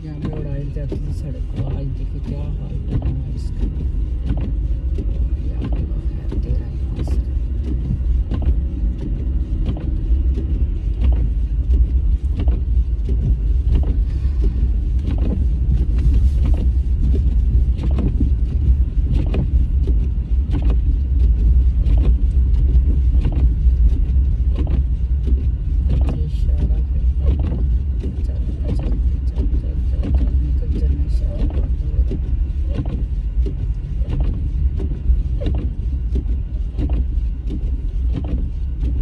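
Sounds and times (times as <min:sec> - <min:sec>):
engine and tyre rumble: 0:00.0 - 0:39.0.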